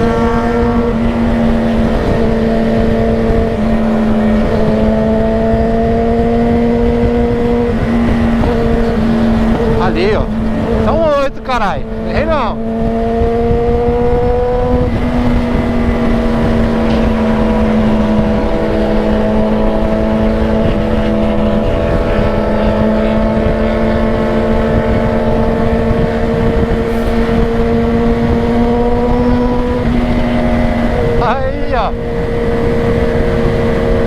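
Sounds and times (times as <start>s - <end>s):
motorcycle engine cruising: 0.0s - 34.0s
wind rumble on microphone: 0.0s - 34.0s.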